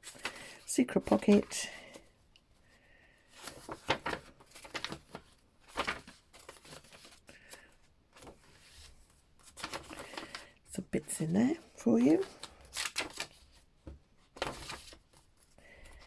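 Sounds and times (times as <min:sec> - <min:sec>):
paper and card rustling: 0:00.0 - 0:02.1, 0:03.3 - 0:16.0.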